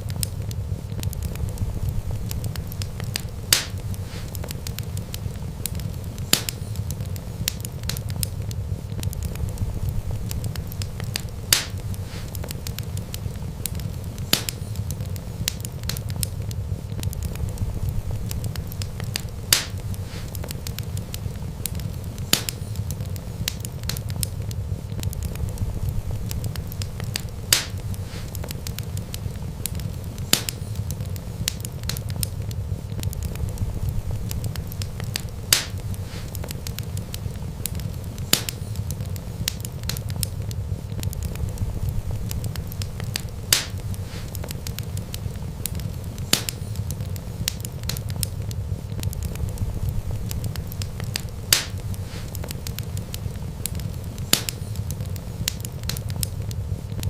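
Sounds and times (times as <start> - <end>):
fire crackling: 0.0 - 57.0
fire flames rumbling: 0.0 - 57.0
fire popping: 0.0 - 57.0.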